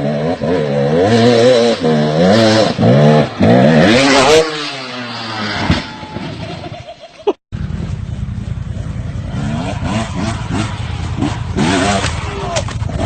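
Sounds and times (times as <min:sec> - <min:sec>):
motorcycle engine revving: 0:00.0 - 0:06.8, 0:07.6 - 0:13.0.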